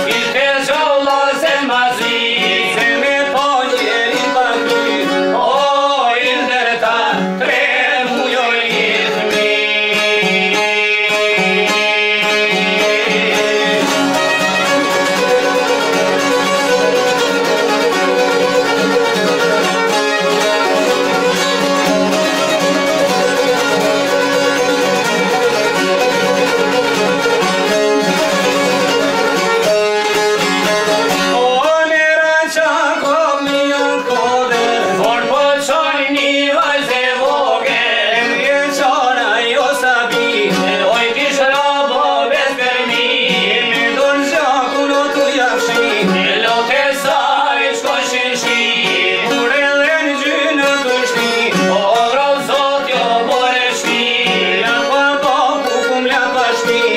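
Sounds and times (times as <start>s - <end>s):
man singing: 0.0s - 29.5s, 30.6s - 56.9s
plucked long-necked lutes: 0.0s - 56.9s
violin: 0.0s - 56.9s.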